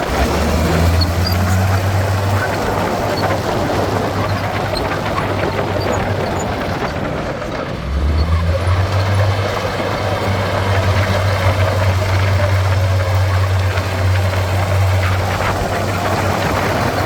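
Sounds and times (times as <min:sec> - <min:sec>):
diesel engine low drone: 0:00.0 - 0:17.0.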